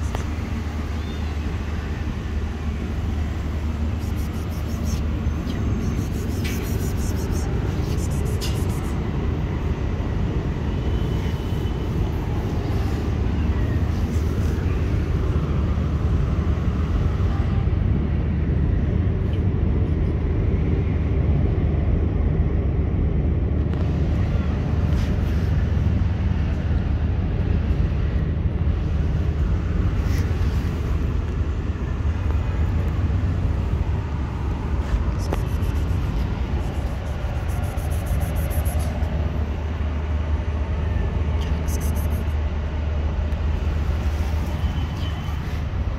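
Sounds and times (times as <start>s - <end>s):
low rumble of city background: 0.0s - 45.9s.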